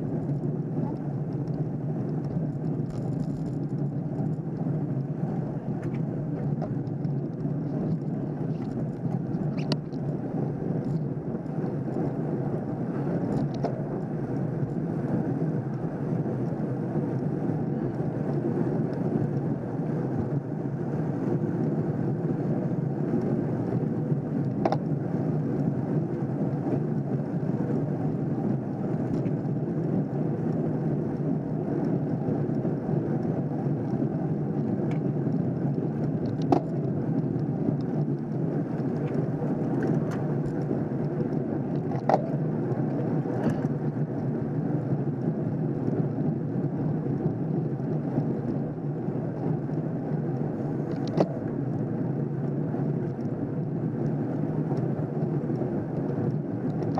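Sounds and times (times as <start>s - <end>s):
bike road and wind noise: 0.0s - 56.9s.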